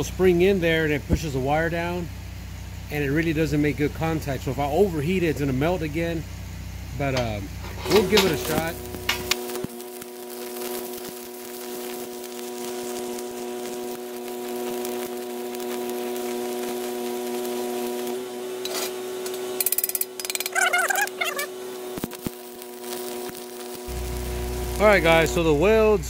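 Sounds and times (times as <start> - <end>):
droning hum: 0.0 - 26.0
welding arc crackling: 0.0 - 26.0.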